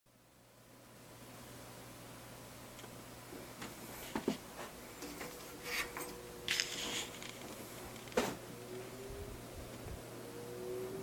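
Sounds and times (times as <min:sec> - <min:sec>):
box fan running: 0:00.1 - 0:11.0.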